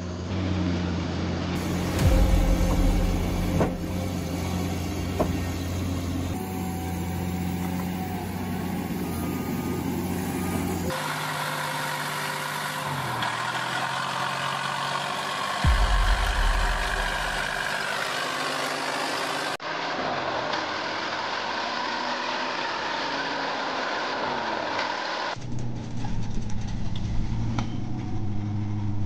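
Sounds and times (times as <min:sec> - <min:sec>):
heavy diesel machinery running: 0:00.0 - 0:29.0
logging truck diesel engine: 0:00.0 - 0:29.0.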